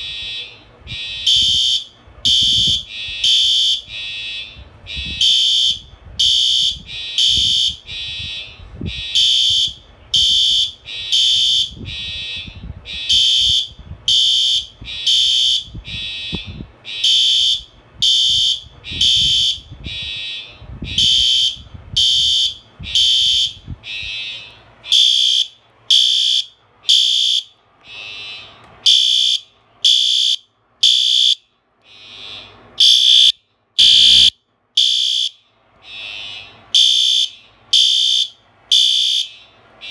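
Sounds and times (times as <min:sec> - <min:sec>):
fire alarm beeps: 0:00.0 - 0:39.9.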